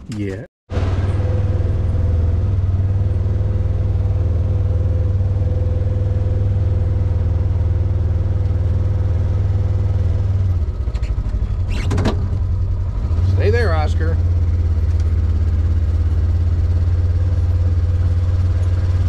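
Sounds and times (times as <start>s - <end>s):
high whine: 0.1s - 19.0s
vehicle engine droning: 0.2s - 19.0s.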